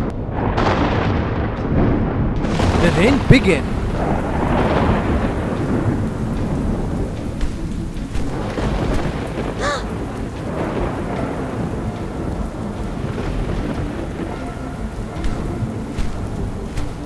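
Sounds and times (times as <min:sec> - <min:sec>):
low thunder rumble: 0:00.0 - 0:17.0
steady rain: 0:00.0 - 0:17.0.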